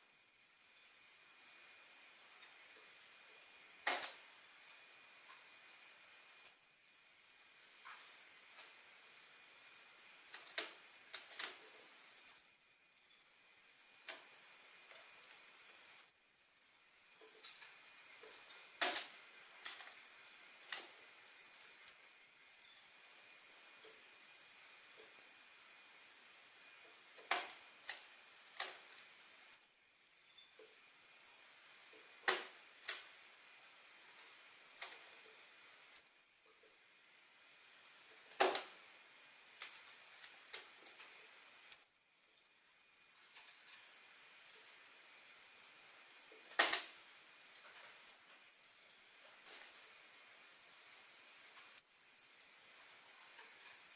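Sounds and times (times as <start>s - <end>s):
faint high whine: 0.0s - 53.9s
high cricket-like trill: 0.0s - 53.9s.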